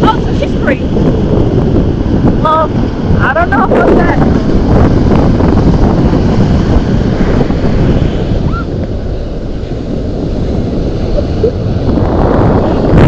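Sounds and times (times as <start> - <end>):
sea surf washing: 0.0 - 13.0
wind buffeting microphone: 0.0 - 13.0.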